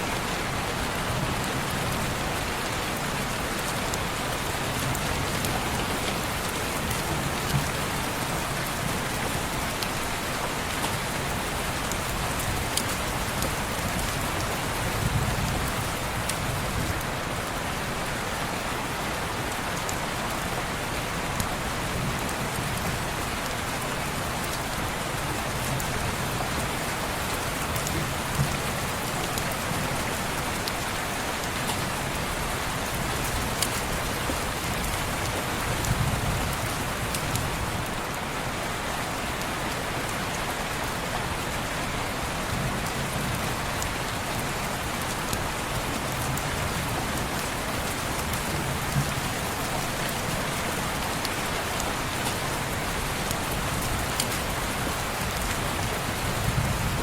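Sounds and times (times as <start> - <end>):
rain on window glass: 0.2 - 18.3, 19.3 - 57.0.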